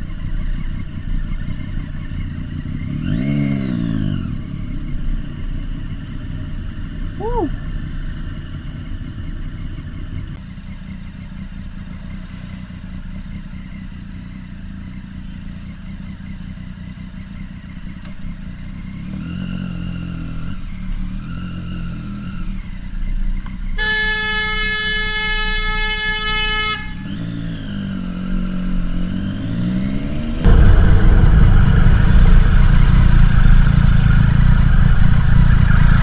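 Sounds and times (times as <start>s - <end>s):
motorcycle engine droning: 0.0s - 36.0s.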